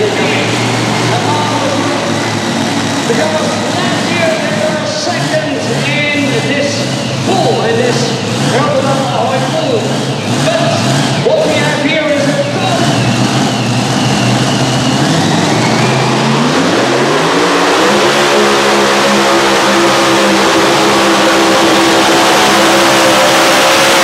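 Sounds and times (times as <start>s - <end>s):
supercharged engine revving: 0.0s - 24.0s.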